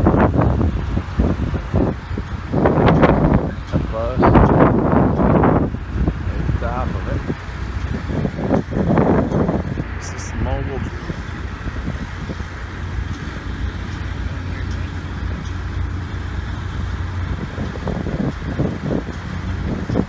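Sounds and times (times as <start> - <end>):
even mechanical noise: 0.0 - 20.0
low engine rumble: 0.0 - 20.0.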